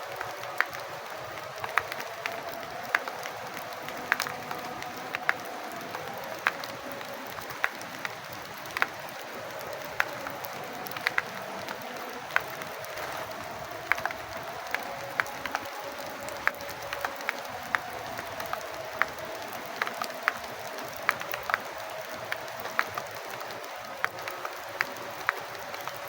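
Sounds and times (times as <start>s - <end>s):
steady rain hiss: 0.0s - 26.0s
water drops dripping off roof: 0.0s - 26.0s.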